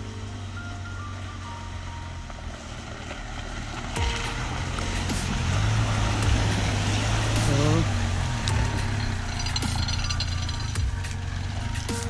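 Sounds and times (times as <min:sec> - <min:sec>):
car engine running: 0:00.0 - 0:12.0
tyres splashing through water: 0:01.1 - 0:12.0.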